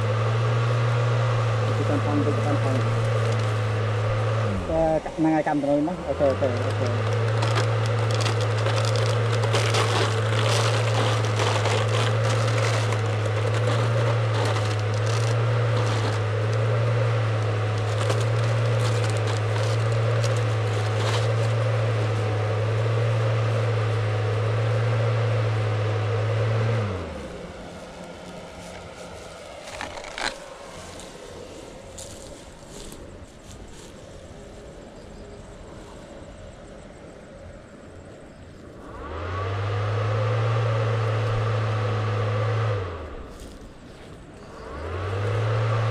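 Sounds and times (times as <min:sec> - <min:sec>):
small fan whirring: 0:00.0 - 0:45.9.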